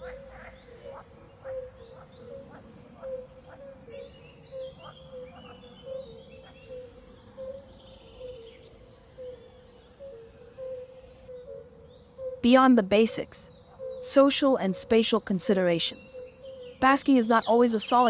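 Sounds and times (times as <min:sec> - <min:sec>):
bird chirps and twitters: 0:00.0 - 0:18.0.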